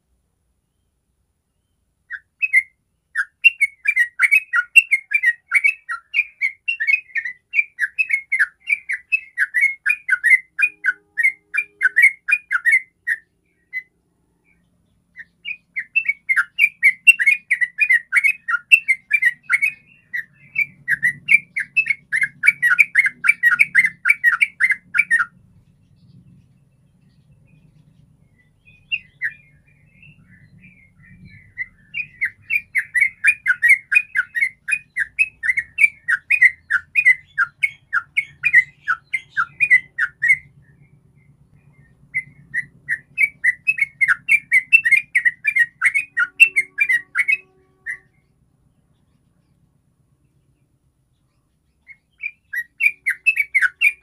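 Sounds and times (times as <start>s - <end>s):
bird chattering song: 1.6s - 54.0s.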